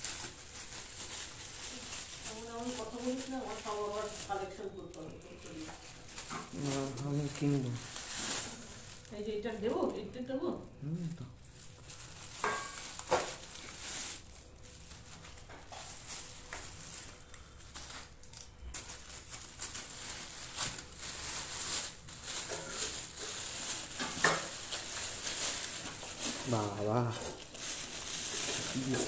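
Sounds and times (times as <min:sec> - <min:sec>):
food packaging rustling: 0:00.0 - 0:10.0, 0:11.4 - 0:29.0.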